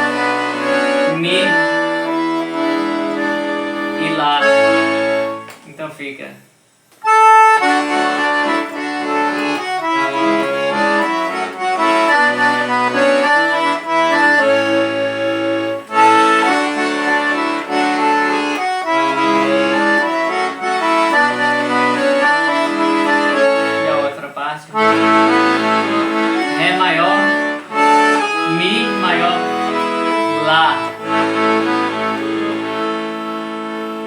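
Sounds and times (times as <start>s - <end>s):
piano accordion playing a tune: 0.0s - 5.9s, 7.0s - 34.0s.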